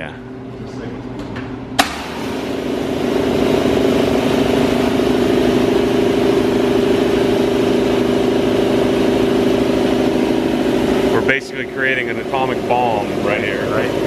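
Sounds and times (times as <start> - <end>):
air compressor droning: 0.0 - 14.0.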